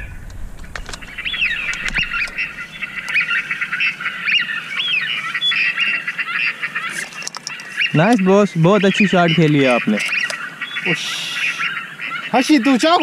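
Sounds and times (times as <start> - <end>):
waterfowl calling: 0.0 - 13.0.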